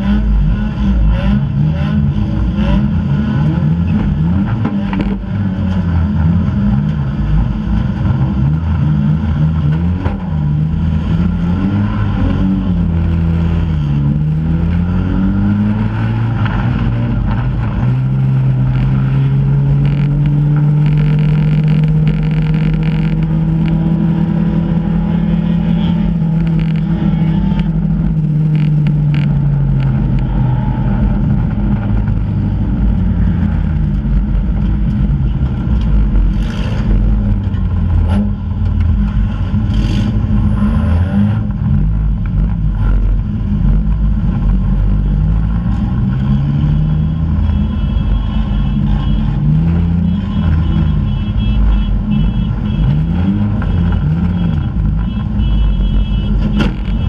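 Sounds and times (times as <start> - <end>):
race car engine from inside: 0.0 - 57.0.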